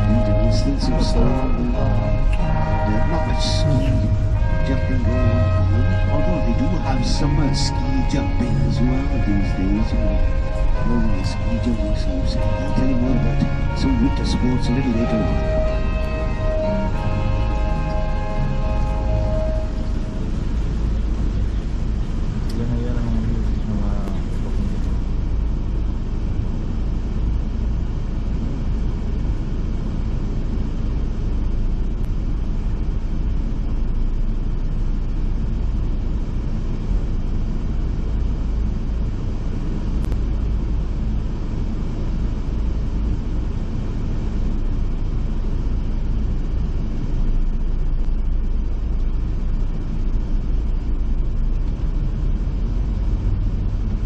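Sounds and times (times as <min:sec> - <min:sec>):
bus engine rumble: 0:00.0 - 0:54.0
road noise: 0:00.0 - 0:54.0.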